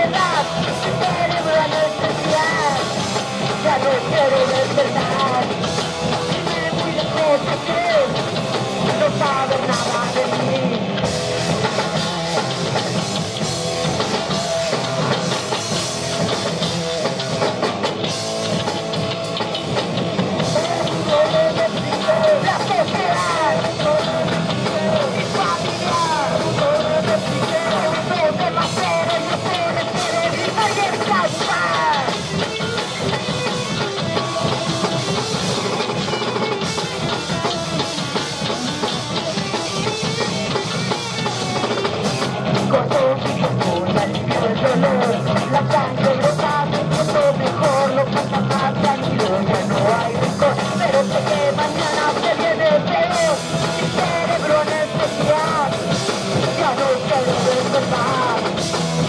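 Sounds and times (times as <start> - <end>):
person singing: 0.0 - 13.0, 20.2 - 59.0
drum kit and cymbals: 0.0 - 59.0
electric guitar: 0.0 - 59.0.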